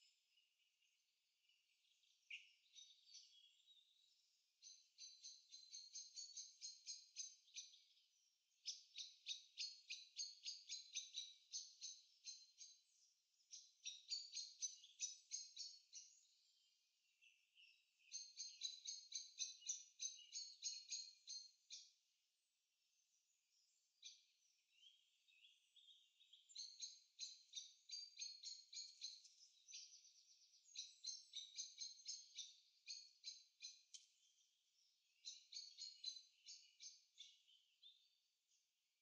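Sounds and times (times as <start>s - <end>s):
faint bird chirping: 0.0s - 39.0s.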